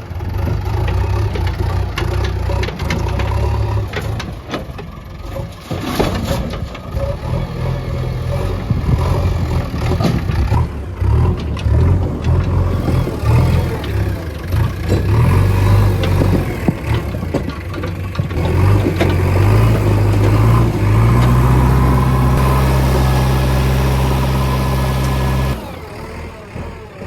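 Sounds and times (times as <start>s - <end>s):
engine knocks and clatter: 0.0s - 27.0s
heavy diesel engine running: 0.0s - 27.0s.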